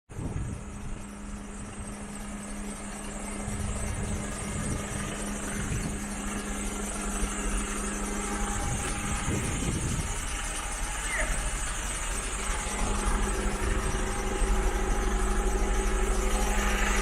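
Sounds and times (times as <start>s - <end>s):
steady hum: 0.1s - 17.0s
truck diesel engine idling: 0.4s - 17.0s.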